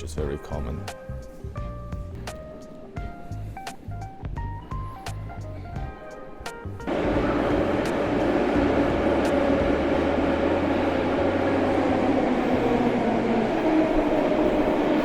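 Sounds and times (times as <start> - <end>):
metro train rumbling: 1.1 - 15.0.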